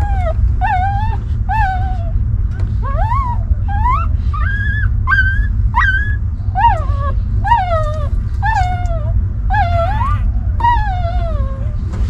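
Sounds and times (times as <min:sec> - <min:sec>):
newborn puppies whimpering: 0:00.0 - 0:02.2, 0:02.8 - 0:11.8
steady low rumble: 0:00.0 - 0:12.0.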